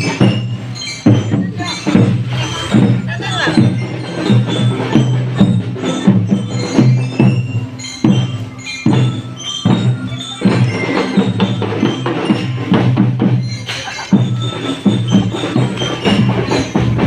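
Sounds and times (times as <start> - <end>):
ringing pitched notes: 0.0 - 17.0
sharp knocking percussion beat: 0.0 - 17.0.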